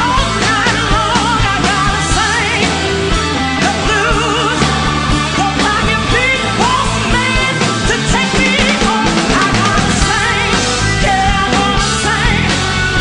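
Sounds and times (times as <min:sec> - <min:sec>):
drum kit: 0:00.0 - 0:13.0
electric bass: 0:00.0 - 0:13.0
electric guitar: 0:00.0 - 0:13.0
woman singing blues: 0:00.0 - 0:13.0.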